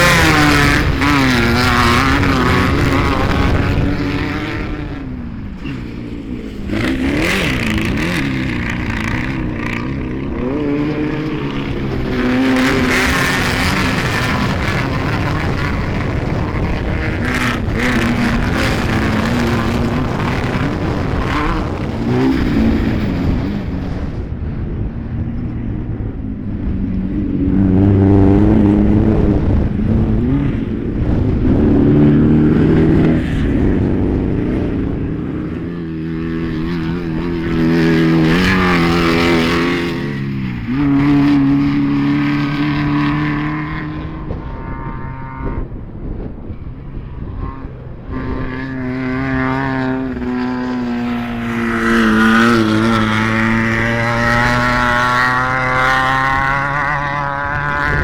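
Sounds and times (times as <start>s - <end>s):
engines revving hard: 0.0s - 24.8s, 27.4s - 58.0s.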